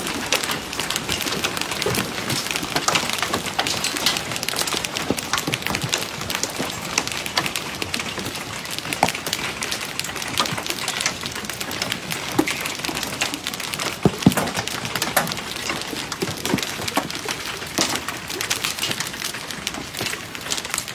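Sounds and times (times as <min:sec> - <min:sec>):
hail falling: 0:00.0 - 0:20.9.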